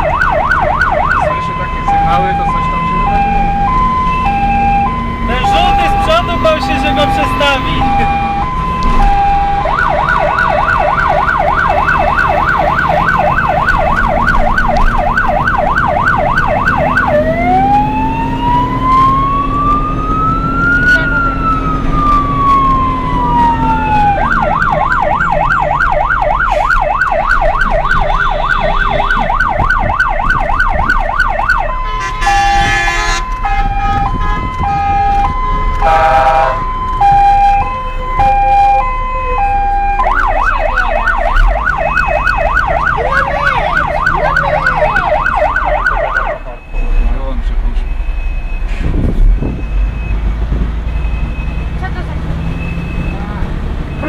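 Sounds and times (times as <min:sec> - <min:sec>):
electronic siren cycling tones: 0:00.0 - 0:48.7, 0:52.4 - 0:53.3.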